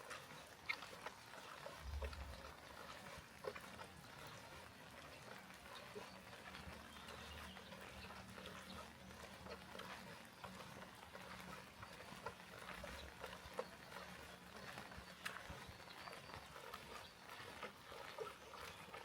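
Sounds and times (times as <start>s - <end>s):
small drip ticks: 0.0s - 19.0s.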